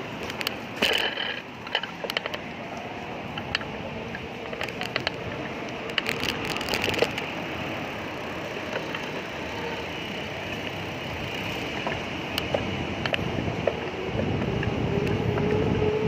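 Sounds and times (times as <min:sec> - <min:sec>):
bicycle clicks and rattles: 0:00.0 - 0:16.0
road and traffic noise: 0:00.0 - 0:16.0.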